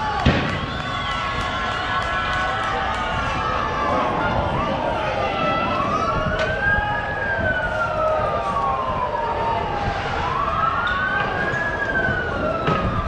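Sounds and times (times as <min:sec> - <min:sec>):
vehicle siren wailing: 0:00.0 - 0:13.0.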